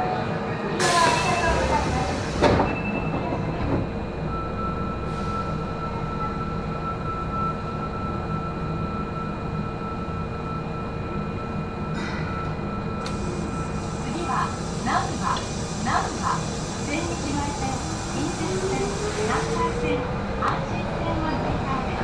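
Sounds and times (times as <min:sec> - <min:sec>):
low train running rumble: 0:00.0 - 0:22.0
train traction whine: 0:00.0 - 0:22.0.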